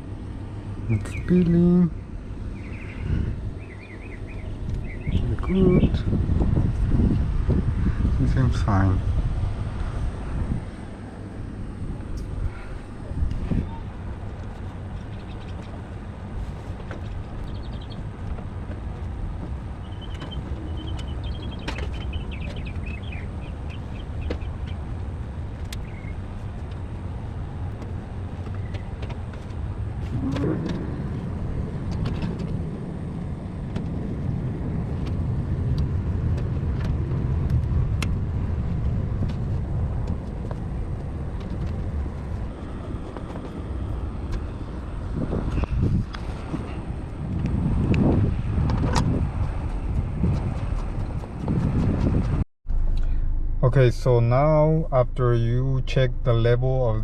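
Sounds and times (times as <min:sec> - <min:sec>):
low outdoor rumble: 0:00.0 - 0:57.0.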